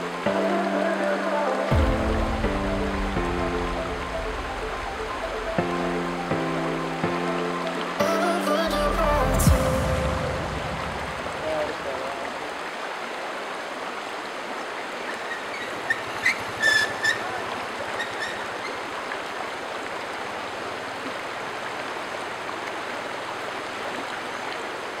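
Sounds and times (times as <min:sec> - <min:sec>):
stream running over rocks: 0:00.0 - 0:25.0.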